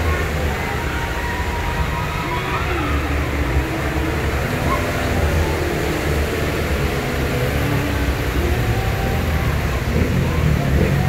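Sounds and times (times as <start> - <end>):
truck engine low rumble: 0.0 - 11.0
water churning around wheels: 0.0 - 11.0.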